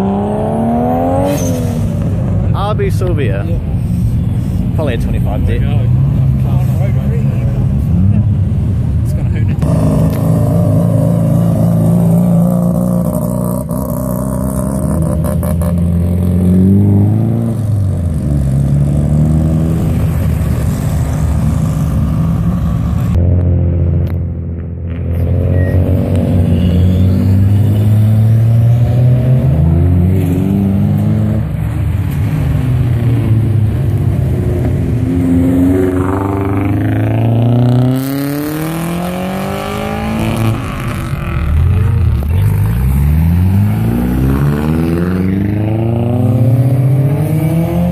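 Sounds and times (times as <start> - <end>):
car engines accelerating: 0.0 - 47.9.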